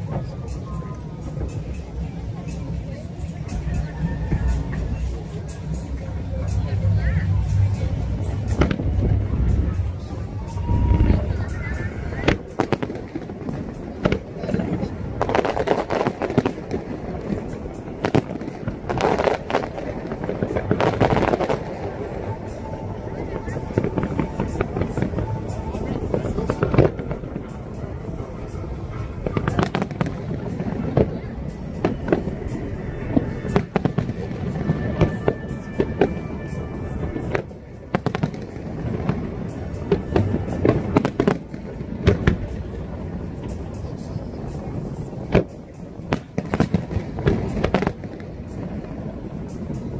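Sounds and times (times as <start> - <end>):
fireworks crackling: 0.0 - 49.9
low rumble: 0.0 - 49.9.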